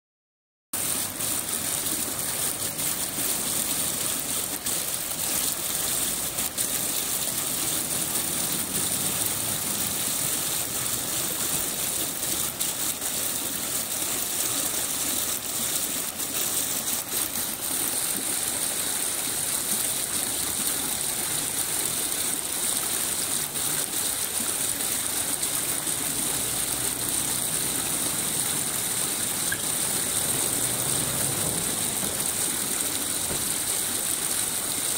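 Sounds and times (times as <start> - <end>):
fountain water gushing and splashing: 0.8 - 34.9.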